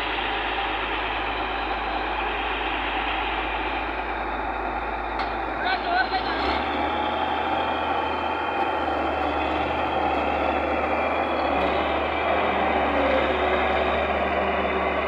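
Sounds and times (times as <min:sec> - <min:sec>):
combine harvester diesel engine: 0:00.0 - 0:15.0
tractor diesel engine running: 0:00.0 - 0:15.0.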